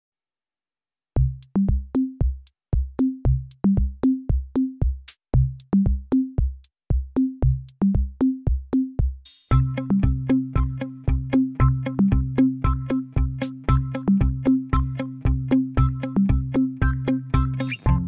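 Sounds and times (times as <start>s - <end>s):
drum-machine beat: 1.2s - 18.0s.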